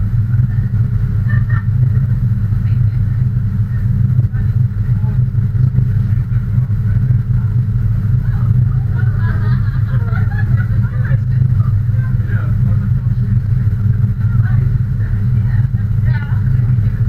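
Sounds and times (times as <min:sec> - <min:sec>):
faint voices: 0:00.0 - 0:17.0
vehicle engine running: 0:00.0 - 0:17.0.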